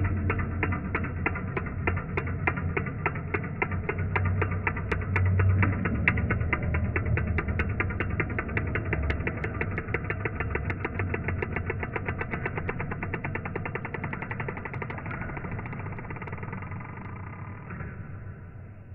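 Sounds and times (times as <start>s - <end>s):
ping-pong ball clicking rapidly: 0.0s - 17.8s.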